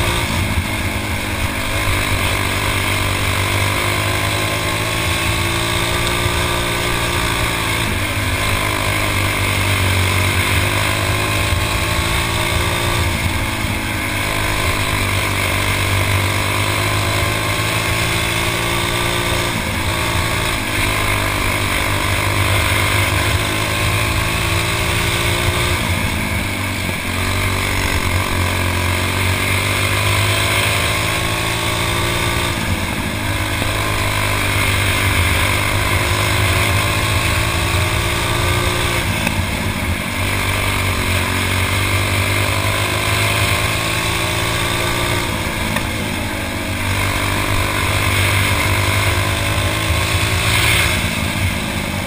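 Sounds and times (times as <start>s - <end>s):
kart engine revving: 0.0s - 52.0s.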